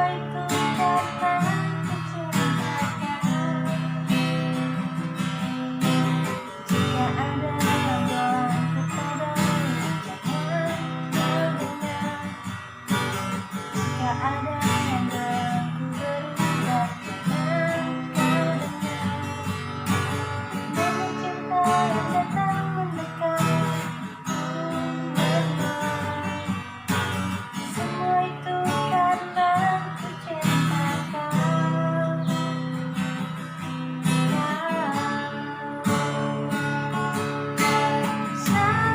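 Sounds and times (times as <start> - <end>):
acoustic guitar strumming: 0.0 - 38.9
woman singing: 0.0 - 38.9.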